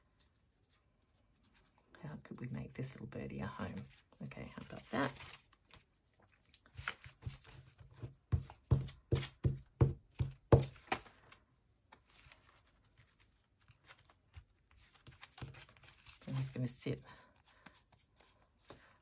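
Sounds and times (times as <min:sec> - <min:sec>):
faint paper handling: 0:00.0 - 0:09.3, 0:10.7 - 0:19.0.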